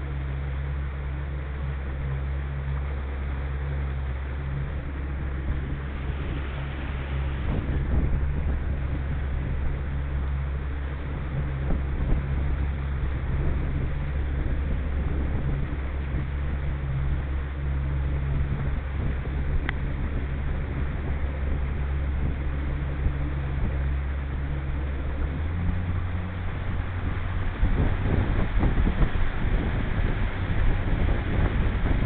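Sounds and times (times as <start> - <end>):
outboard motor running: 0.0 - 32.0
water rushing past hull: 0.0 - 32.0
wind rushing: 4.6 - 17.5, 18.2 - 32.0.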